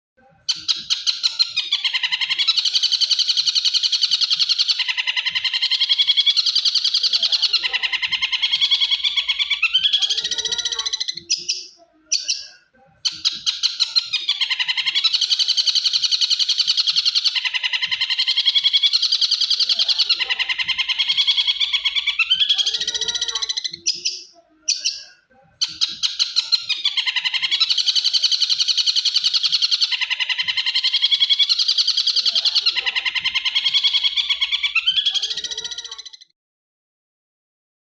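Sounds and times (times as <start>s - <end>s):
canary song: 0.2s - 36.4s.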